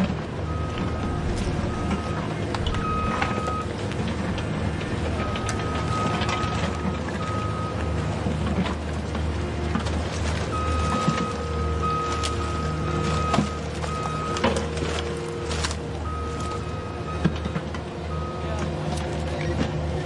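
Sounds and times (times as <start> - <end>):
electric motors humming: 0.0 - 20.0.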